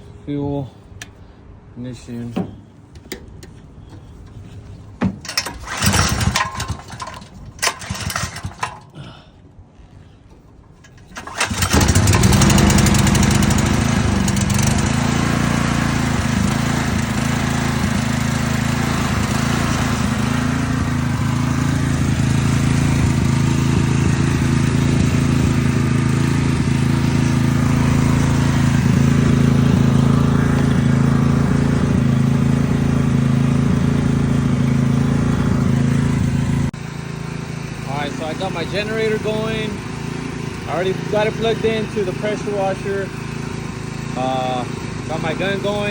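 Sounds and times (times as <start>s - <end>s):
generator engine starting and running: 0.0s - 45.9s.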